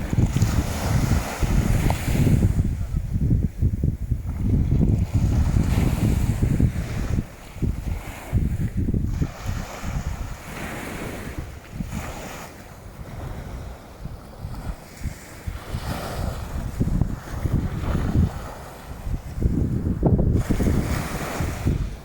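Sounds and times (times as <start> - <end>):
waves washing onto shore: 0.0 - 22.0
wind buffeting microphone: 0.0 - 22.0.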